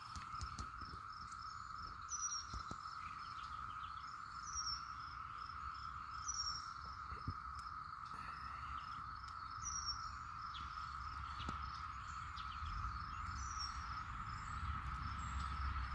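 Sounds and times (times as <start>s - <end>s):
insect pulsing chirp: 0.0s - 15.9s
insect steady high trill: 0.0s - 15.9s.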